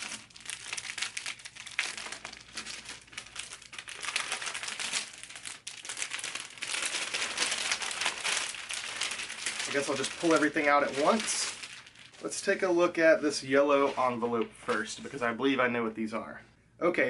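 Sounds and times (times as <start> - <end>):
packing material crinkling: 0.0 - 12.7, 13.3 - 15.4.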